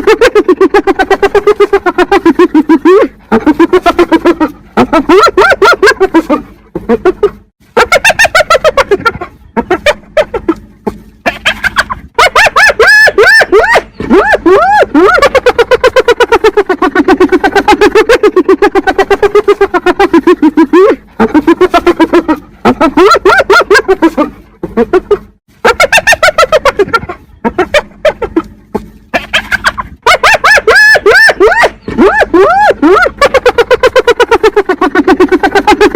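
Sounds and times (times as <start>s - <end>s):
hyena giggling: 0.0s - 35.9s.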